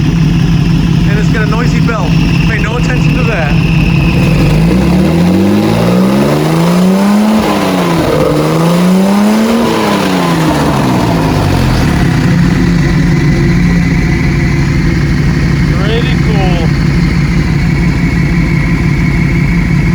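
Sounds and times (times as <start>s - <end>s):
car engine revving and idling: 0.0s - 19.9s.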